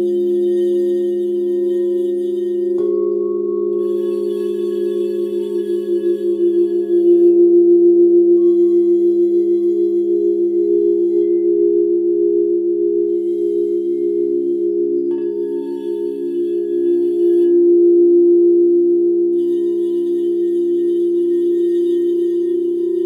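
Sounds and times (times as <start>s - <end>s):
crystal singing bowls ringing: 0.0s - 23.0s.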